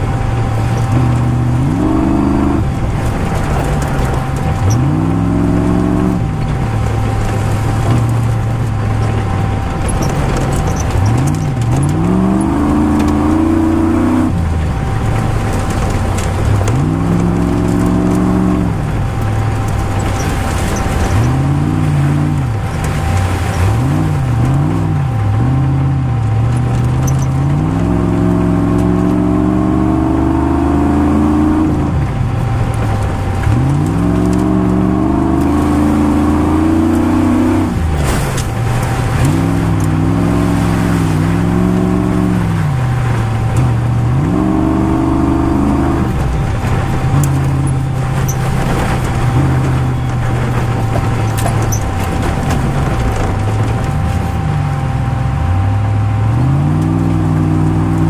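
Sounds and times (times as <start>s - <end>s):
knocks and rattles: 0.0s - 25.6s, 31.9s - 54.3s
car engine revving: 0.0s - 58.0s.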